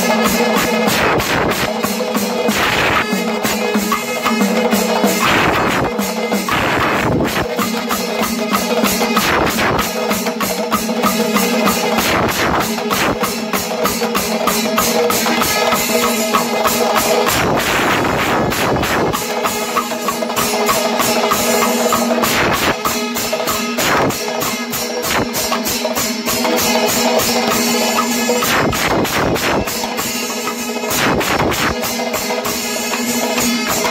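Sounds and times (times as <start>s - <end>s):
cymbals clashing: 0.0s - 33.9s
fast drum strokes: 0.0s - 33.9s.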